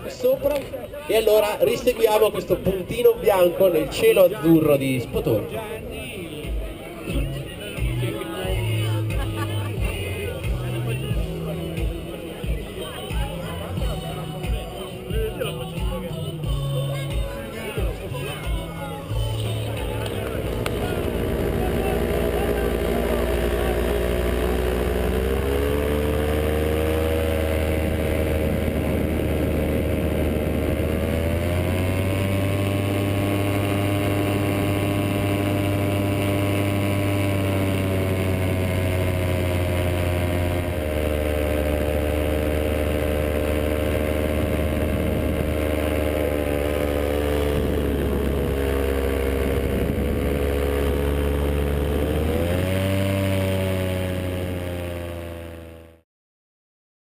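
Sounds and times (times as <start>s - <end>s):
paramotor engine running: 0.0s - 56.0s.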